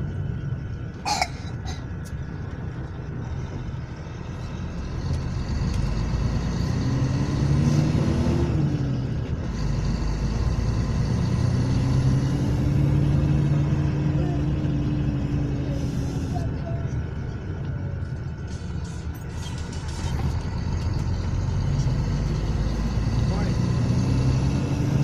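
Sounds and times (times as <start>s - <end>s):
diesel coach engine running: 0.0s - 25.0s.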